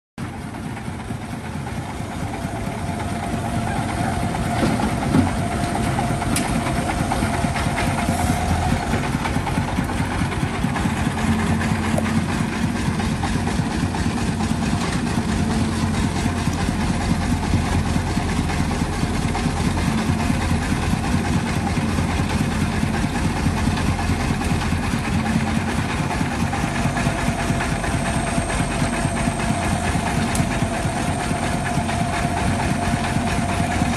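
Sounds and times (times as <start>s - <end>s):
chugging diesel truck engine: 0.2s - 33.9s
excavator digging: 0.2s - 33.9s.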